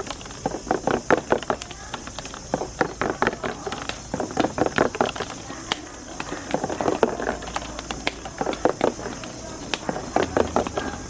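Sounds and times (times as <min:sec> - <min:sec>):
marbles rolling down a track: 0:00.0 - 0:11.0.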